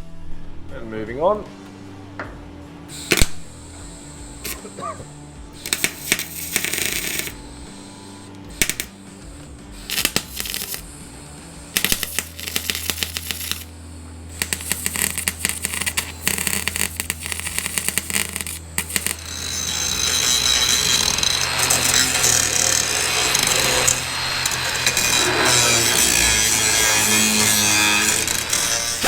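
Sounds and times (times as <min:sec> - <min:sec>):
power tool running: 0:02.9 - 0:29.0
welder crackling: 0:02.9 - 0:29.0.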